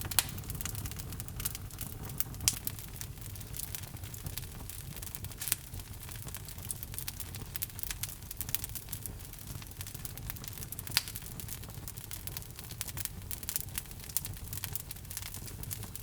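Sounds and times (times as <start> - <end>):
log fire crackling in fireplace: 0.0 - 16.0.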